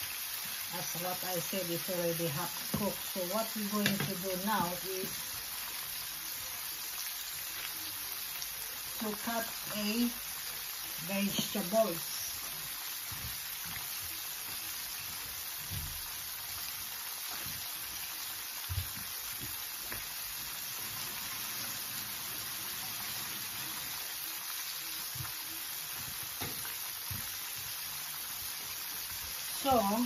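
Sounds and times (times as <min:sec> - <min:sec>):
oil sizzling in a pan: 0:00.0 - 0:30.0.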